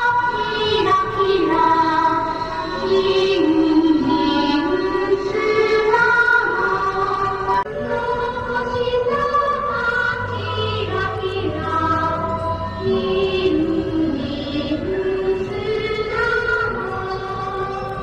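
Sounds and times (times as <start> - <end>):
low steady drone: 0.0 - 18.0.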